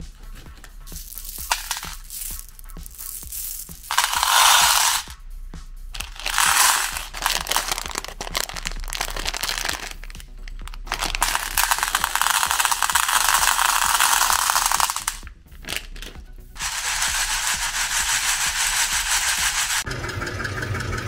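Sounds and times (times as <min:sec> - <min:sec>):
candies pouring rattling onto plate: 0:00.9 - 0:05.1, 0:06.0 - 0:19.9
candies spilling onto plate: 0:00.9 - 0:05.1, 0:06.0 - 0:19.8
plastic wrapper crinkling: 0:00.9 - 0:05.1, 0:06.0 - 0:19.5.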